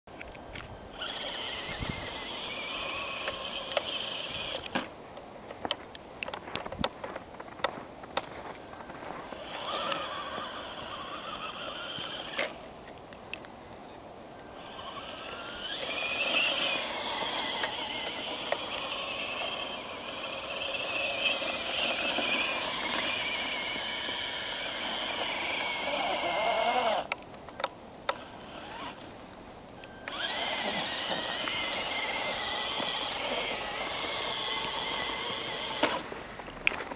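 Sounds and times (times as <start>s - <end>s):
electric motor and gearbox whining: 0.2s - 4.9s, 8.4s - 12.6s, 14.5s - 36.9s.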